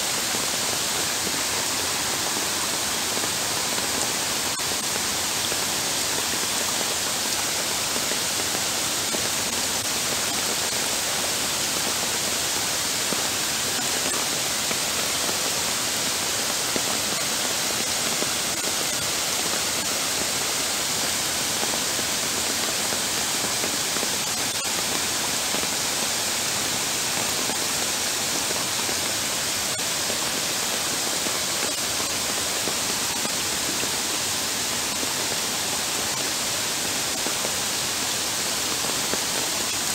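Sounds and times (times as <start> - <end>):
torrential rain and running water: 0.0 - 39.9.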